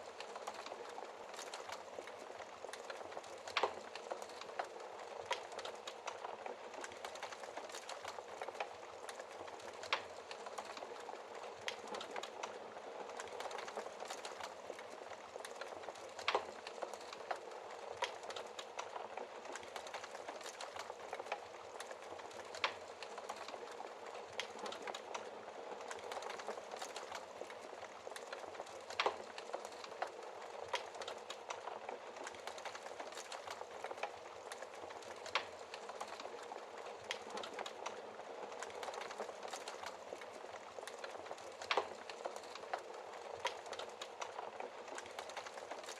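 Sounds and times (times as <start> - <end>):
fire popping: 0.0 - 45.9
wood fire crackling: 0.0 - 45.9.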